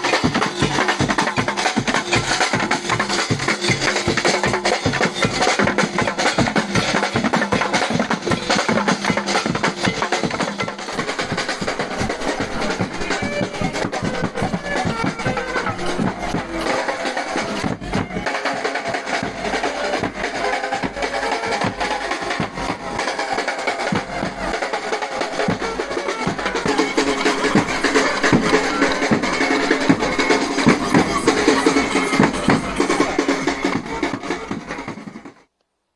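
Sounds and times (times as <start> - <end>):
music with fast drumming: 0.0 - 35.5.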